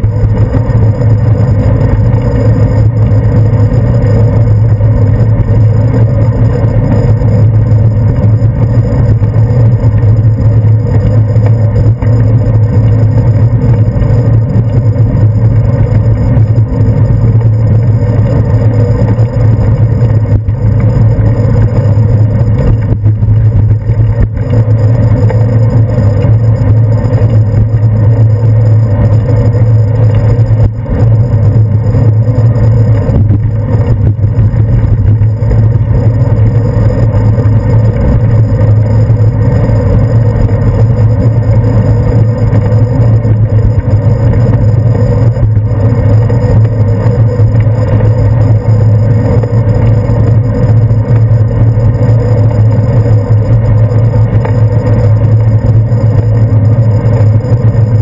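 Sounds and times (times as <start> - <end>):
bicycle ride rumble: 0.0 - 58.0.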